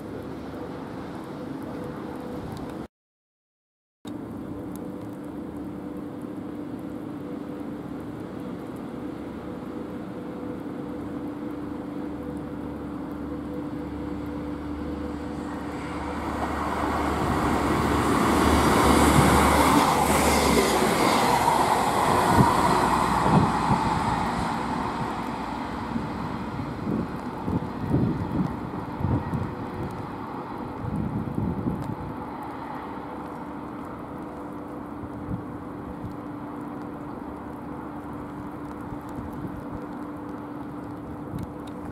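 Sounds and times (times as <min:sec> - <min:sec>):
diesel train engine hum: 0:04.2 - 0:38.3.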